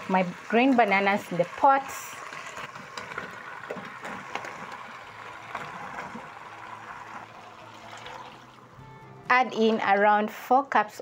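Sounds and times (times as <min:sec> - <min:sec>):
sauce bubbling in pot: 0:00.0 - 0:08.8.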